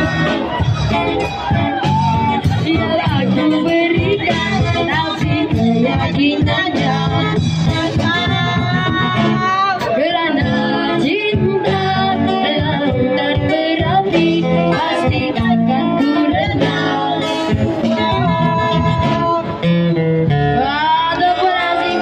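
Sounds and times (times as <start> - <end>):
acoustic guitar: 0.0 - 22.0
band accompaniment: 0.0 - 22.0
person singing: 1.4 - 19.7, 20.4 - 22.0.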